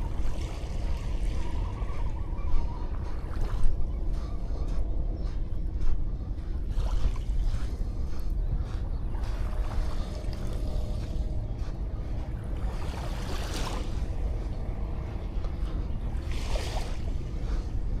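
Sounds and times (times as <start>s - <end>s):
steady low rumble: 0.0s - 18.0s
waves washing on a beach: 0.0s - 18.0s.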